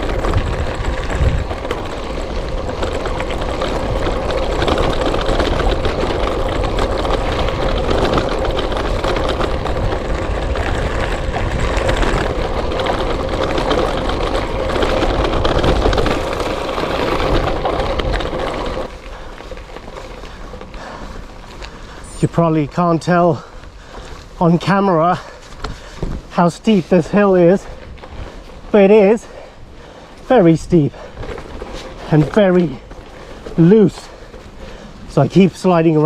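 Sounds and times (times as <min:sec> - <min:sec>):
bike tyres crunching on gravel: 0:00.0 - 0:36.0.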